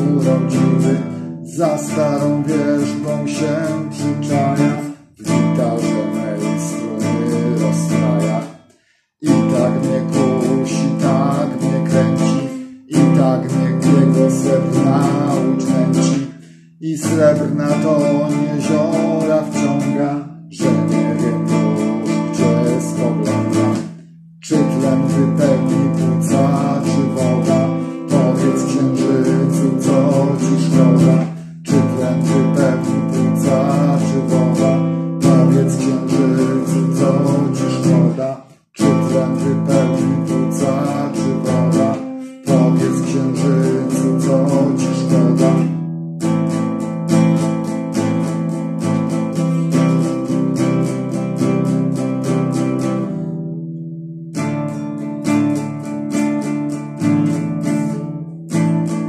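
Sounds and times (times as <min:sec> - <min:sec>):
man singing: 0:00.0 - 0:53.2, 0:55.2 - 0:59.0
strummed acoustic guitar: 0:00.0 - 0:59.0.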